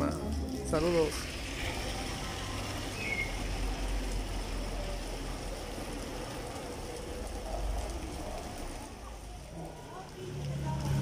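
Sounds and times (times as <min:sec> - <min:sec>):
rain on cobblestone street: 0:00.0 - 0:11.0.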